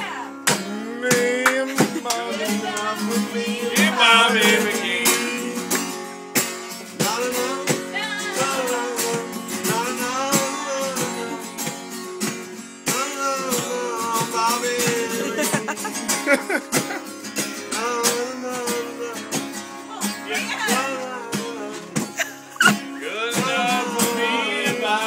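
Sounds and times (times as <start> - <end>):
person singing: 0.0 - 5.7, 7.0 - 11.6, 12.9 - 17.0, 17.7 - 25.0
strummed acoustic guitar: 0.0 - 25.0.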